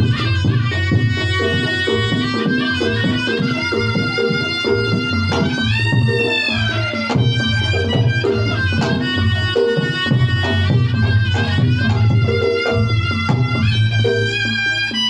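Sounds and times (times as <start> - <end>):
gong-chime percussion: 0.0 - 15.0
hand drums beat: 0.0 - 15.0
reedy shawm melody: 0.0 - 15.0.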